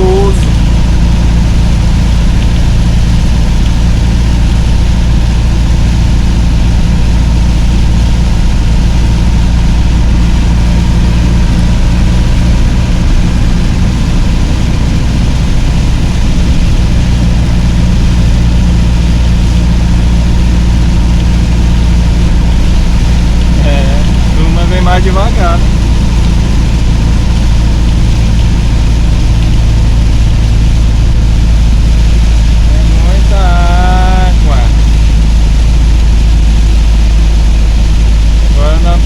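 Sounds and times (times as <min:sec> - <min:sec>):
rain: 0:00.0 - 0:39.0
tyres hissing on wet road: 0:00.0 - 0:39.0
vehicle engine running: 0:00.0 - 0:39.0.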